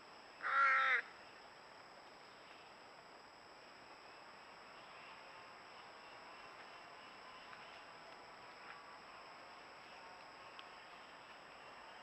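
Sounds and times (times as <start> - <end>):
faint recording hiss: 0.0 - 12.0.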